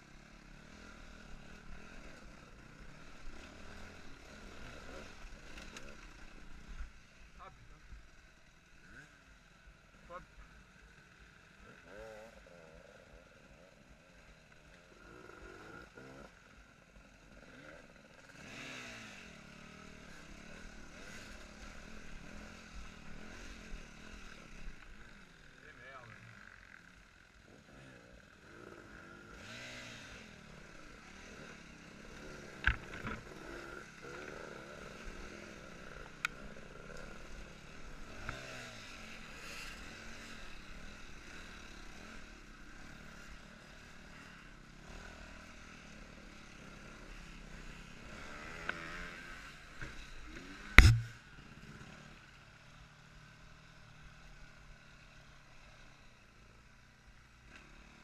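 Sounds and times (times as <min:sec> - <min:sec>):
dirt bike engine revving: 0:00.0 - 0:07.0, 0:11.6 - 0:52.2.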